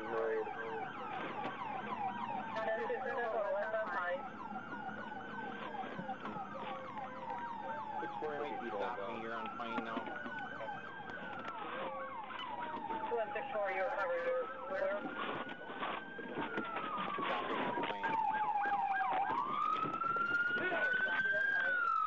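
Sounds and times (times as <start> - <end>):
fast yelping siren: 0.0 - 22.0
police siren wailing: 0.0 - 22.0.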